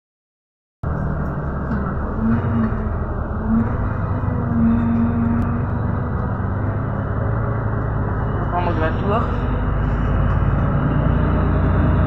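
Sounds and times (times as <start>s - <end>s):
road noise: 0.8s - 12.0s
vehicle engine drone: 0.8s - 12.0s.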